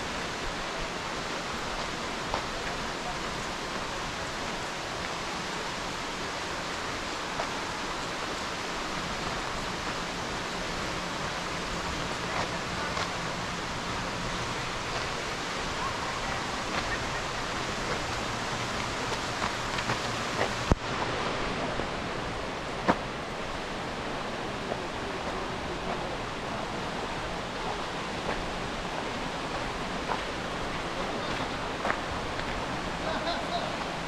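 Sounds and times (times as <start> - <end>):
waterfall roaring: 0.0 - 34.0.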